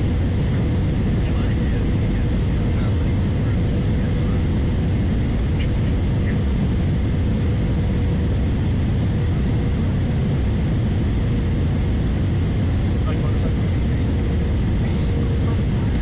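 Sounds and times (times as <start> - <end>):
jet engine roar in cabin: 0.0 - 16.0.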